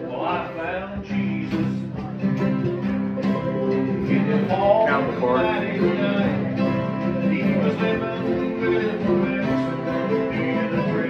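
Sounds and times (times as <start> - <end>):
acoustic bluegrass band playing: 0.0 - 11.0.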